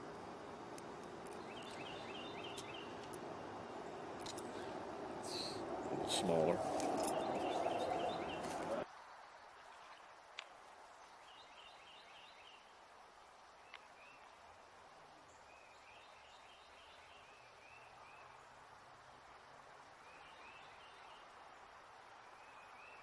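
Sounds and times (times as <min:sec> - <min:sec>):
faint bird chirping: 0:00.8 - 0:23.0.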